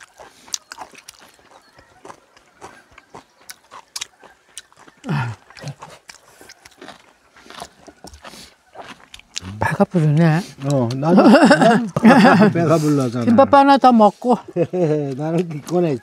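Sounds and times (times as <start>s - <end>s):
chewing: 0.0s - 16.0s.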